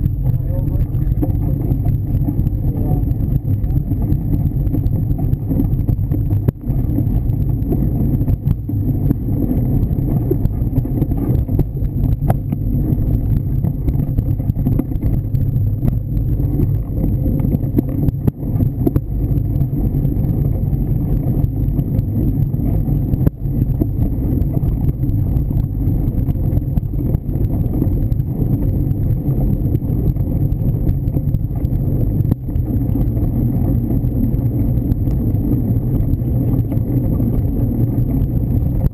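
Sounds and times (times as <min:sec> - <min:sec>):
bike tyres rumbling on dirt trail: 0:00.0 - 0:38.9.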